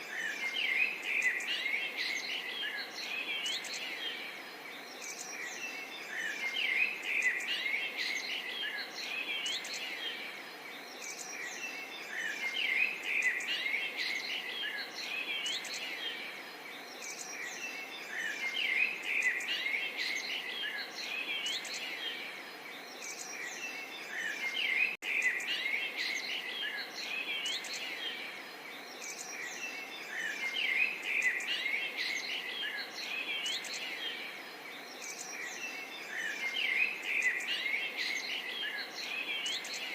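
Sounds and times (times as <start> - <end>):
faint background hiss: 0.0 - 39.9
songbirds chirping and singing: 0.0 - 39.9.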